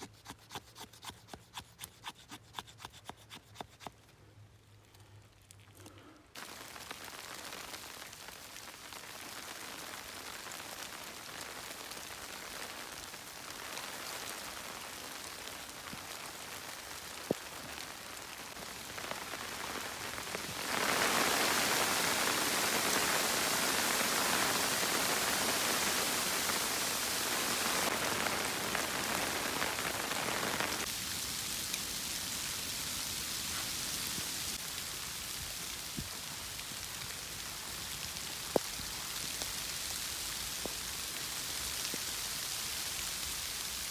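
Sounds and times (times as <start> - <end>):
rain pattering on a surface: 6.4 - 43.9.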